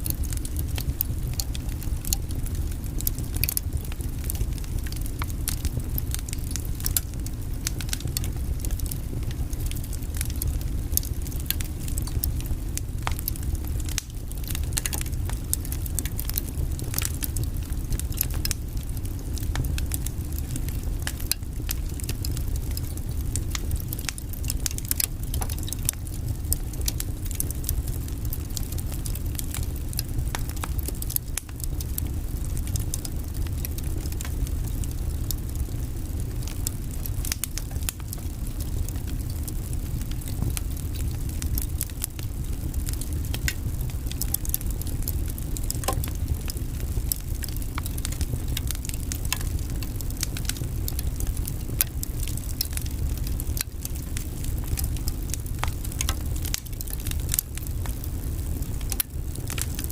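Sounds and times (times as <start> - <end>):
log fire rumbling: 0.0 - 59.9
wood crackling and popping: 0.0 - 59.9.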